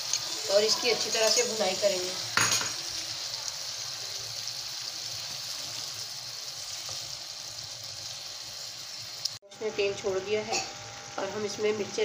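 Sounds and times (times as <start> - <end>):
gravy sizzling in a frying pan: 0.0 - 12.0.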